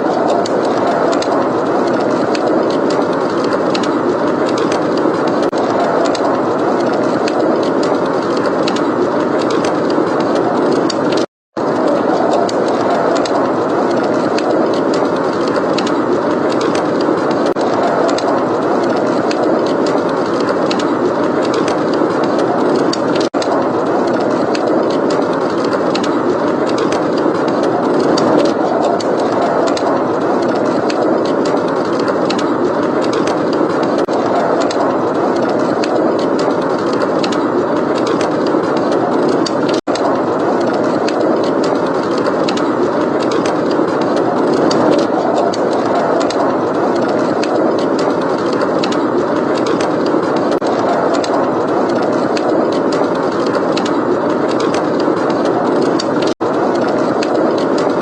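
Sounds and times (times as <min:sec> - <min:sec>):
blizzard wind rushing: 0:00.0 - 0:58.0.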